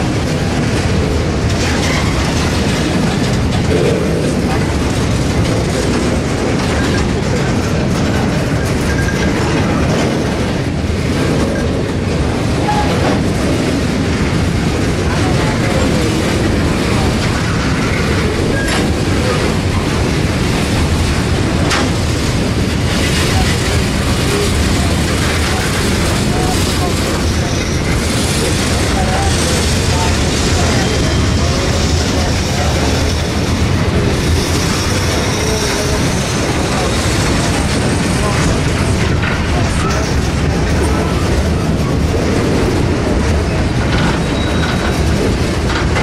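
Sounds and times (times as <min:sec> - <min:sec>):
train wheels rumbling and clattering: 0:00.0 - 0:46.0.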